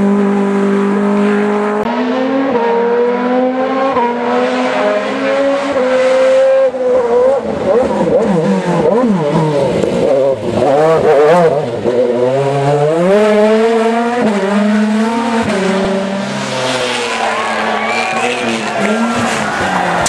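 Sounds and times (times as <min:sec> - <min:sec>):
race car engine at full throttle: 0:00.0 - 0:20.0.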